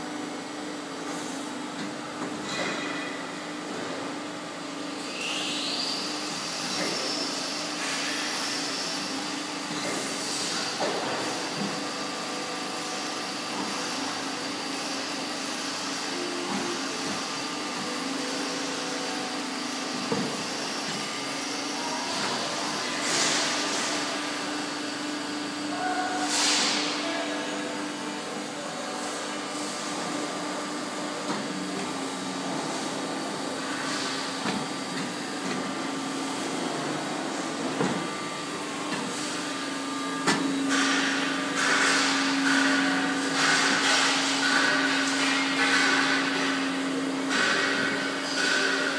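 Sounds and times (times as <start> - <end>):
machine rolls humming: 8.2 - 48.9.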